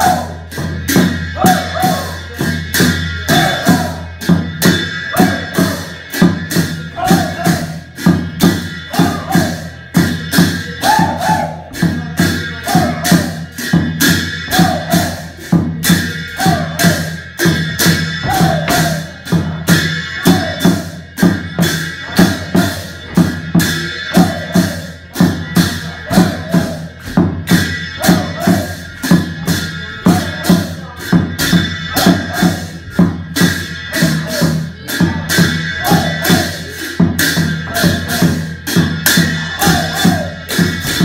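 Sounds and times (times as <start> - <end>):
driving drum beat: 0.0 - 41.0
folk dance music: 0.0 - 41.0.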